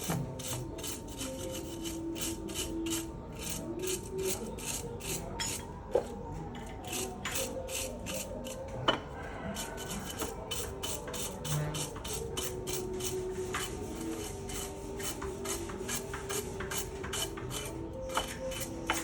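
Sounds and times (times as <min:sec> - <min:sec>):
hand scraping metal engine part: 0:00.0 - 0:19.0.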